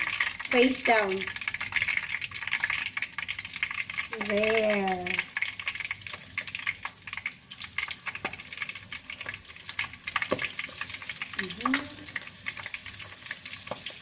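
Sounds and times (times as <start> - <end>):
spring rolls sizzling in hot oil: 0.0 - 14.0.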